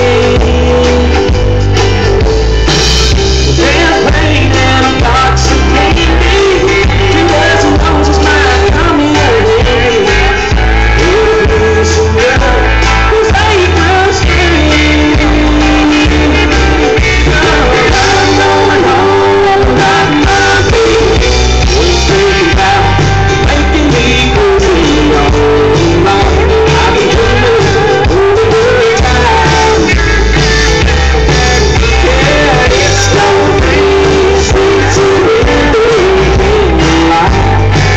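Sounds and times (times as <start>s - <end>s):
live band through pa: 0.0s - 37.9s
person singing: 0.0s - 37.9s
pulsing bass beat: 0.0s - 37.9s.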